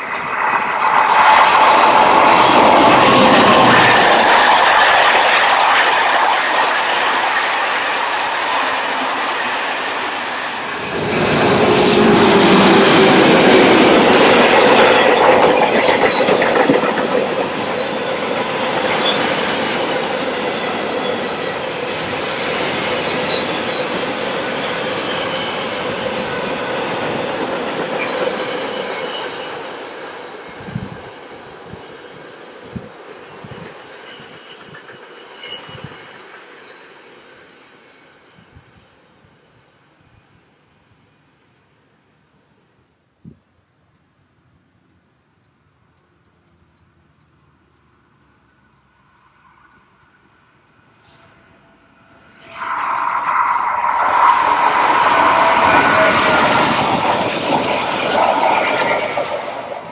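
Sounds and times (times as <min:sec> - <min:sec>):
freight train wheels rumbling: 0:00.0 - 0:37.6, 0:46.0 - 0:59.9
passenger coaches rolling past: 0:00.0 - 0:41.7, 0:47.0 - 0:59.9.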